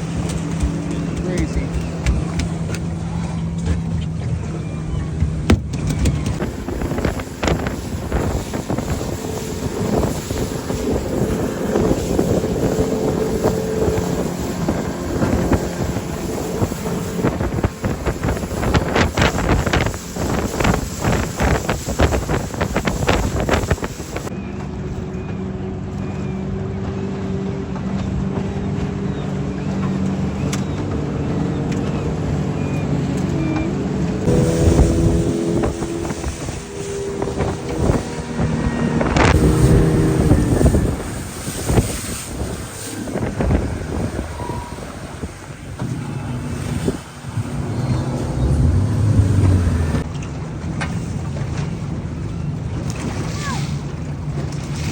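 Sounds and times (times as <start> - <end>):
outboard engine running: 0.0 - 54.9
wind buffeting microphone: 0.0 - 54.9.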